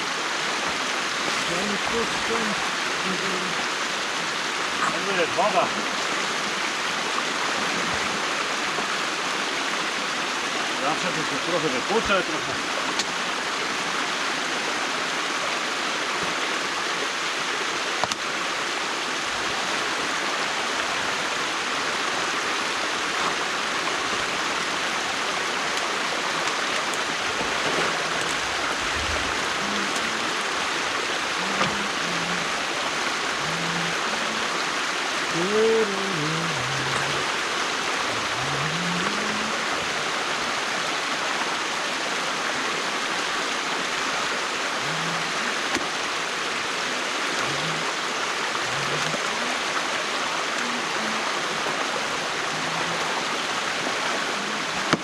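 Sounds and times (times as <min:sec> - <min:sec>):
water rushing through dam: 0:00.0 - 0:55.0.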